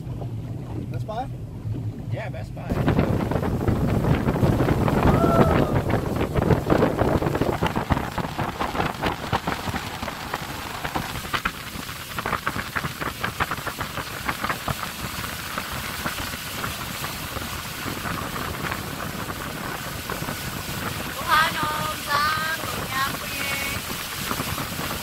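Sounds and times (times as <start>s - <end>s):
boat engine rumble: 0.0s - 25.0s
rushing water: 0.0s - 25.0s
wind buffeting microphone: 0.0s - 25.0s.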